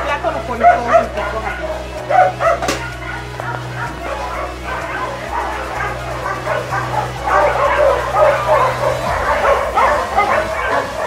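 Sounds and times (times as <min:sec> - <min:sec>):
many dogs barking and yipping: 0:00.0 - 0:11.0.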